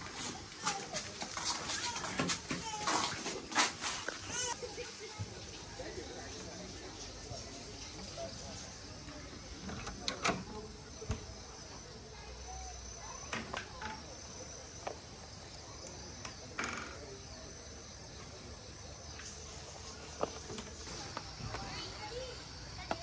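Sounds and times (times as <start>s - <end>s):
faint distant voices: 0.0s - 23.0s
insects chirping: 0.0s - 23.0s.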